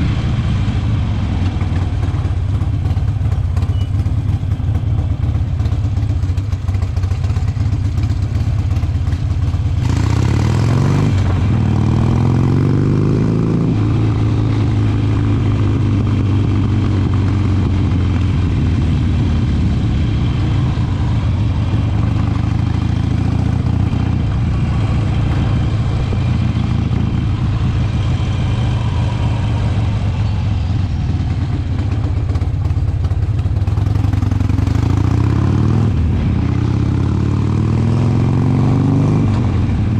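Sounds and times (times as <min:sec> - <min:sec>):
wind noise: 0:00.0 - 0:03.9, 0:05.5 - 0:37.2
motorcycle engine revving: 0:00.0 - 0:39.9.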